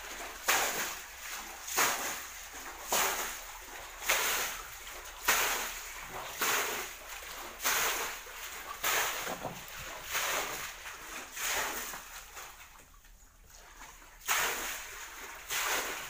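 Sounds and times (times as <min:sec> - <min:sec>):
water splashing from bailing: 0:00.0 - 0:16.0.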